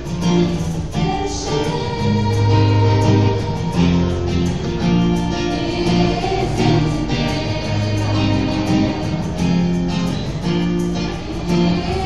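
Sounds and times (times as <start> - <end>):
acoustic guitar strumming chords: 0.0 - 12.0
cajon beat: 0.0 - 12.0.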